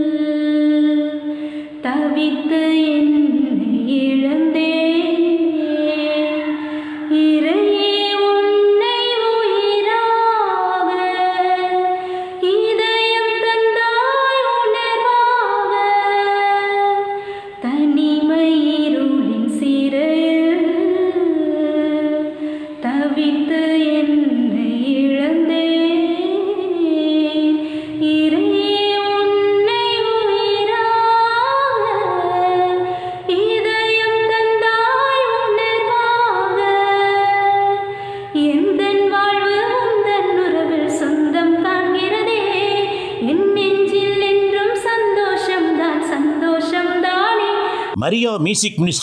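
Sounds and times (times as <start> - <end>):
woman singing unaccompanied: 1.8 - 11.8, 12.4 - 17.0, 17.6 - 37.8, 38.4 - 47.6.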